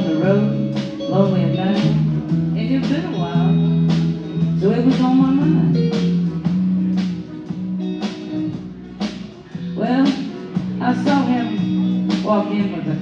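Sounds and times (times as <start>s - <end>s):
guitar with bending lead lines: 0.0s - 13.0s
live band playing: 0.0s - 13.0s.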